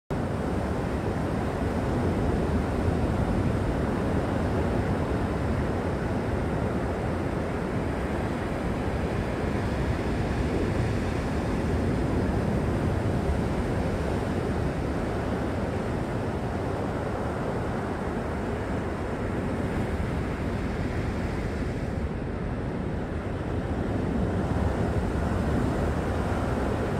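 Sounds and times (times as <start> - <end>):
ocean surf on rocks: 0.2 - 26.9.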